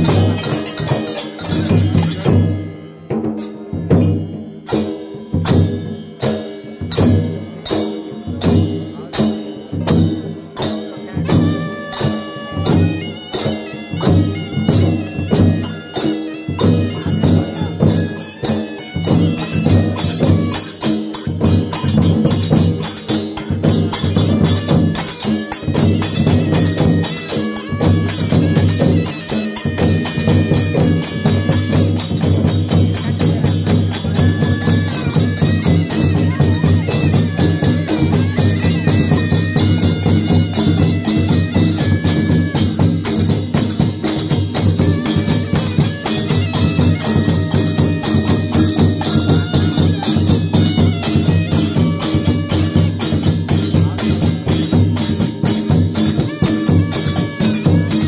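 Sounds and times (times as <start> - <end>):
reed pipe melody: 0.0 - 3.1, 11.0 - 58.0
drums beating: 0.0 - 58.0.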